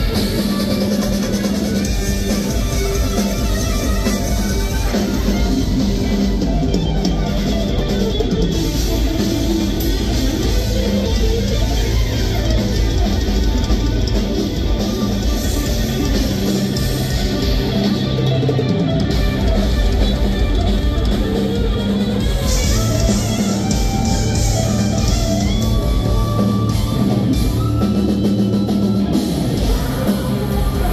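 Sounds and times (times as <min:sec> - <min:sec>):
electric guitar melody: 0:00.0 - 0:30.9
live rock band playing: 0:00.0 - 0:30.9.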